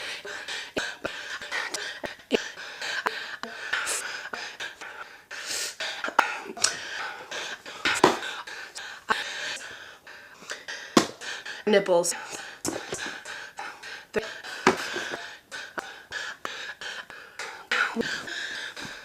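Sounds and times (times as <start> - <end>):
woman breathing heavily: 0.0 - 19.0.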